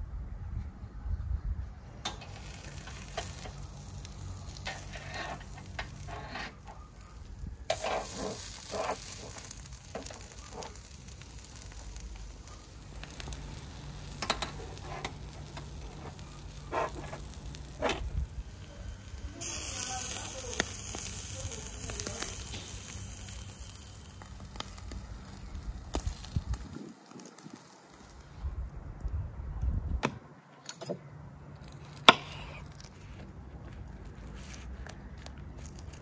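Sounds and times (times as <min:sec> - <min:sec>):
meat sizzling over charcoal: 0:02.1 - 0:28.6, 0:31.6 - 0:36.0.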